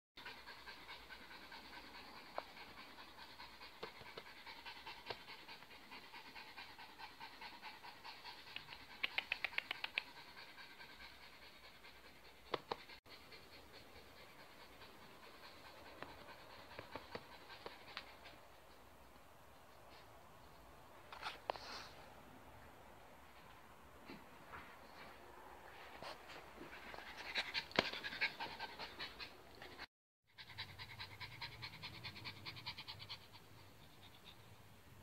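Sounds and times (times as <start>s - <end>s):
small dog panting: 0.2s - 20.6s, 26.0s - 35.0s.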